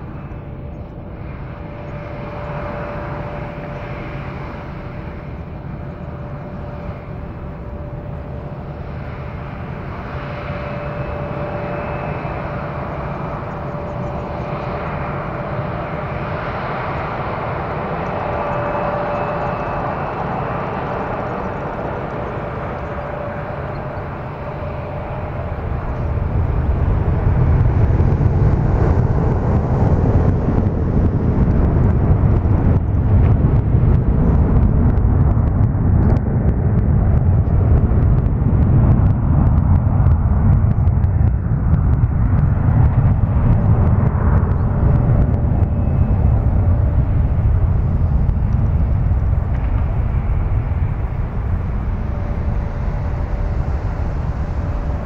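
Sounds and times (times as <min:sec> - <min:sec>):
jet engines roaring at takeoff: 0:00.0 - 0:55.0
jet engines whining: 0:00.0 - 0:55.0.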